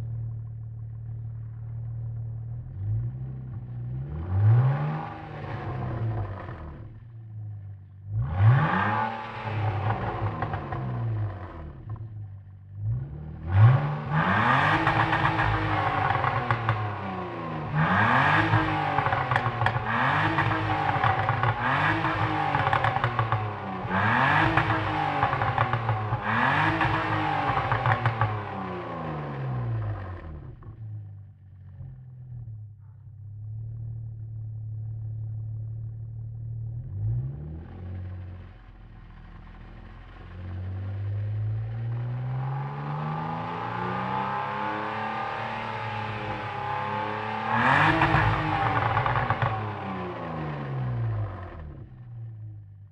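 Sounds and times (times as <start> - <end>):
car engine revving and idling: 0.0 - 52.9.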